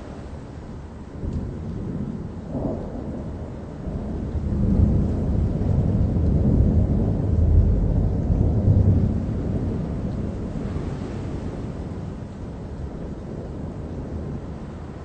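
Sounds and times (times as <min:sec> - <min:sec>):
rolling thunder: 0:00.0 - 0:15.0.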